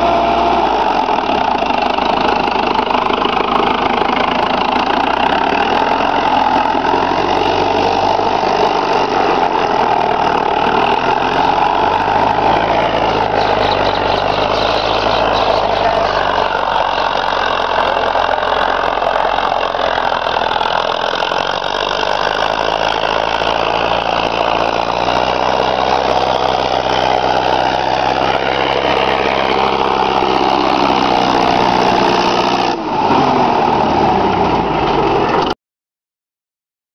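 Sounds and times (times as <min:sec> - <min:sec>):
tractor diesel engine running: 0:00.0 - 0:35.6.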